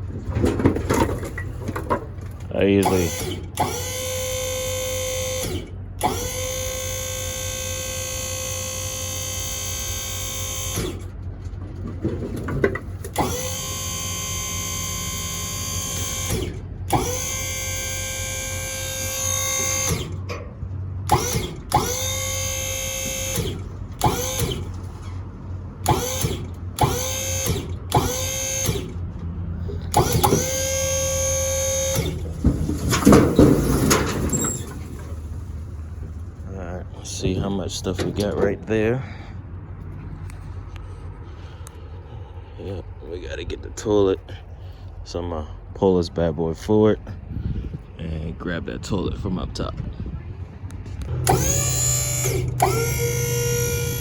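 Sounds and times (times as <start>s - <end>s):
hydraulic pump motor whining: 0.0s - 43.0s, 50.6s - 54.0s
steady low hum: 0.0s - 54.0s.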